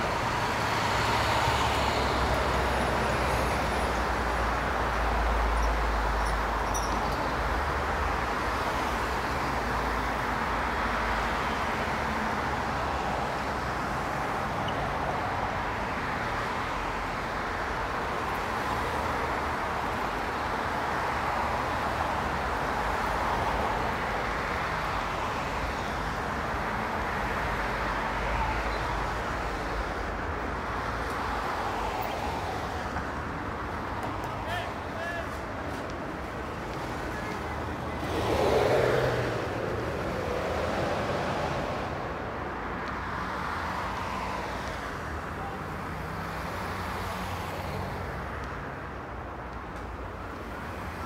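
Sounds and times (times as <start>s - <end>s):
cars passing: 0.0s - 51.0s.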